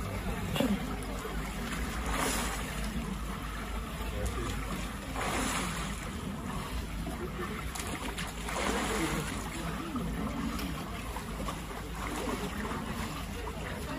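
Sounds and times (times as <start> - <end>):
water sloshing and lapping: 0.0 - 13.9.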